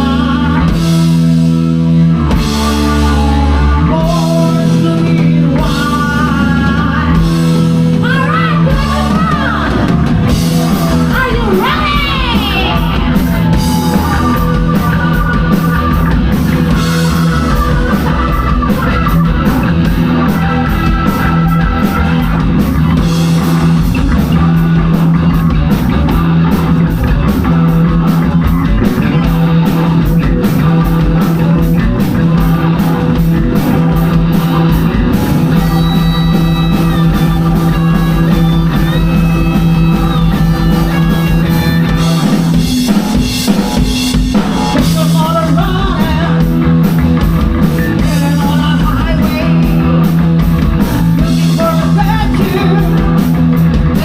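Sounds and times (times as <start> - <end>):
bass guitar: 0.0 - 54.0
drum kit: 0.0 - 54.0
electric guitar: 0.0 - 54.0.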